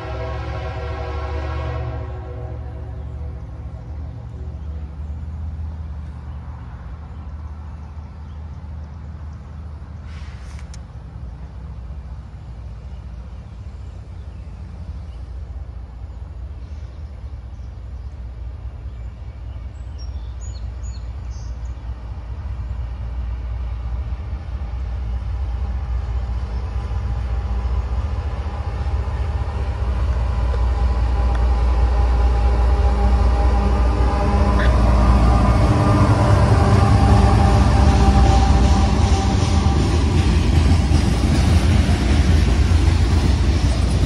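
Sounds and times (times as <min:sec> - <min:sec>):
diesel locomotive engine rumble: 0:00.0 - 0:44.0.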